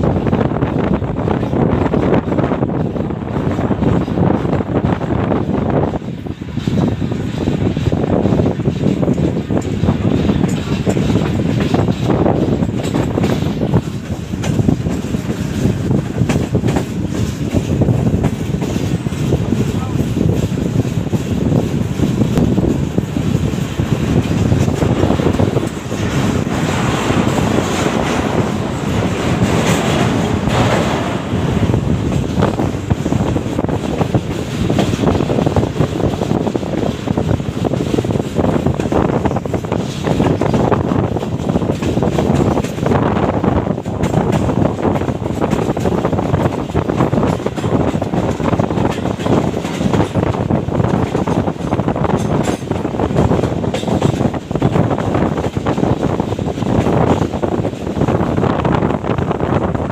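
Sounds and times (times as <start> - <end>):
train rolling rumble: 0.0 - 59.9
wheels clattering over rail joints: 5.8 - 59.9.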